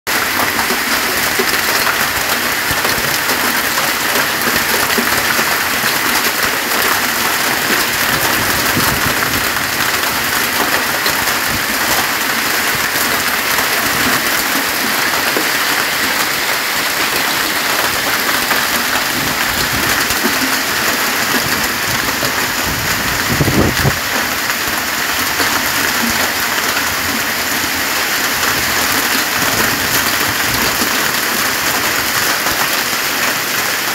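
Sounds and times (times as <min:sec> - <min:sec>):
hail clattering on paving: 0:00.1 - 0:33.9
heavy rain hissing: 0:00.2 - 0:33.9.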